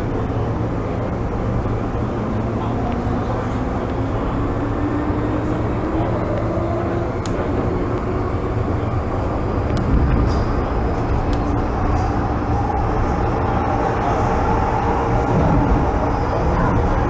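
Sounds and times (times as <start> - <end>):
wheels rumbling on rail: 0.0 - 17.0
train motor whine: 0.9 - 17.0.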